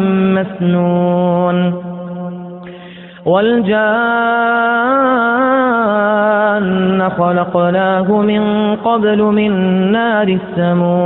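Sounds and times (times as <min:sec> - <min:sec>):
man reciting in melodic chant: 0:00.0 - 0:02.1, 0:03.2 - 0:11.0.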